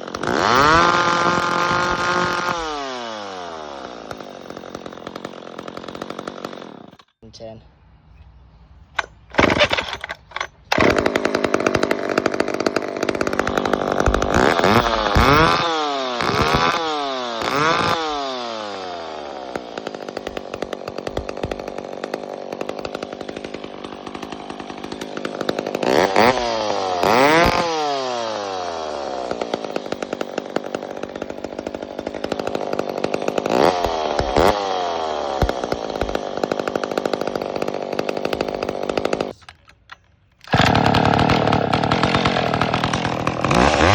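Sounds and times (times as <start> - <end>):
chainsaw idling and revving: 0.0 - 7.2, 9.0 - 43.9.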